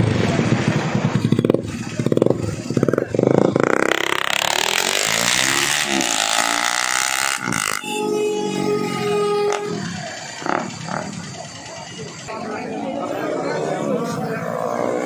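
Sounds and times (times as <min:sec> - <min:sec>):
loud motorcycle engine revving: 0:00.0 - 0:12.3, 0:13.3 - 0:15.0.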